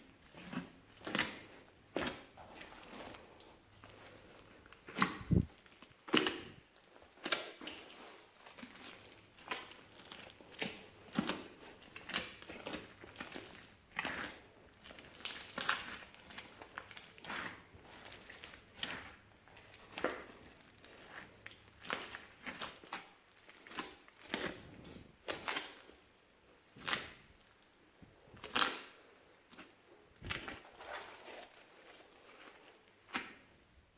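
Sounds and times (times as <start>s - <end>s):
hands squishing slime: 0.0s - 33.6s.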